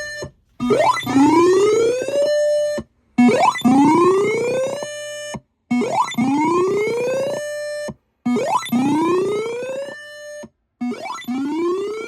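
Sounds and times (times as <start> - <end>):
electronic tornado siren: 0.0 - 12.0.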